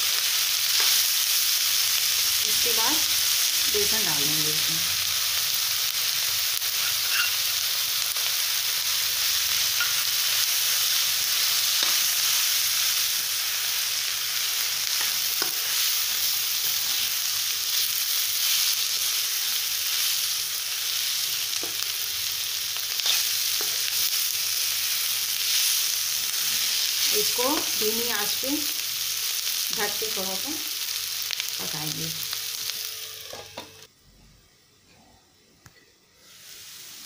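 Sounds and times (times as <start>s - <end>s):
vegetables sizzling in hot oil: 0.0s - 33.9s, 36.2s - 37.0s.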